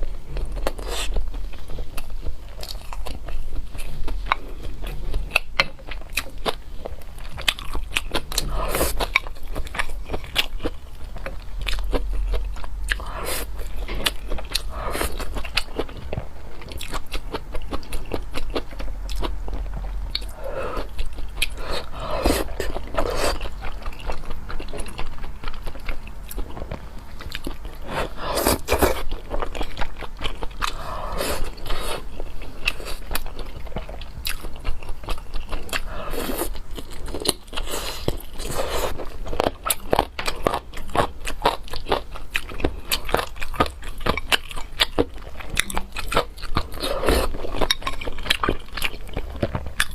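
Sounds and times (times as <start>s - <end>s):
person biting and chewing food: 7.2s - 49.9s.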